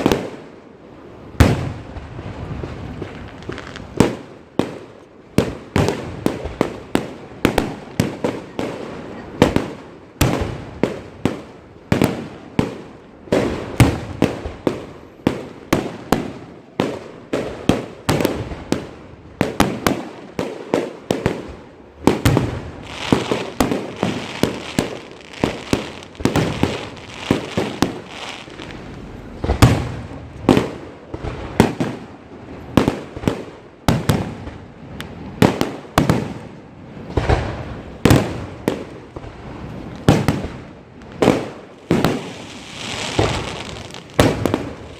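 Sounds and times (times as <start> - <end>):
fireworks bangs: 0.0 - 0.5, 1.3 - 44.9
fireworks crackling: 0.0 - 44.9.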